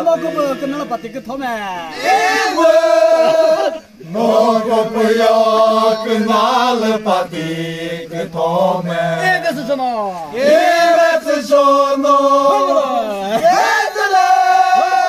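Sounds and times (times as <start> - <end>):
men singing in unison: 0.0 - 9.6, 10.2 - 15.0.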